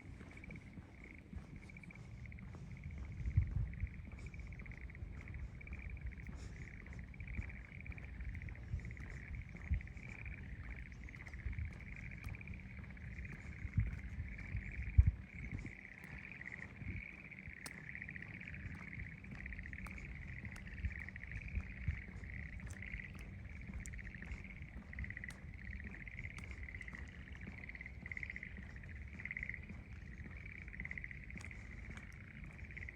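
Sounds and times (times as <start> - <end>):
frogs calling in chorus: 0.0 - 32.9.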